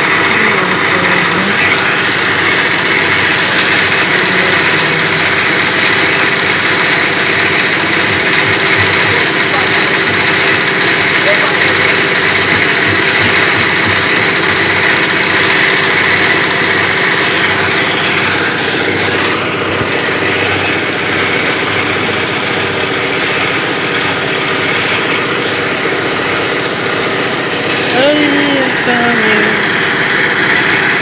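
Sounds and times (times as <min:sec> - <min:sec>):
engine running fast: 0:00.0 - 0:31.0.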